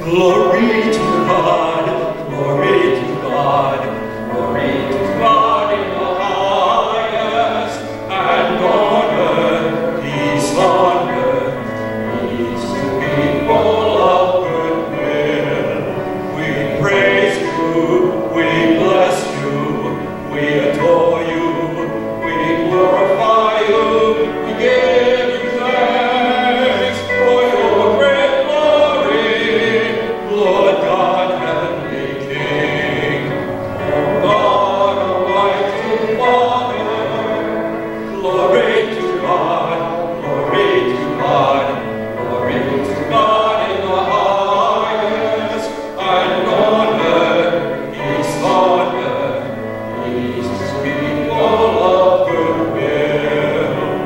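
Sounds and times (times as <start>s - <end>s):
instrumental accompaniment: 0.0s - 54.0s
voices singing a hymn: 0.0s - 54.0s.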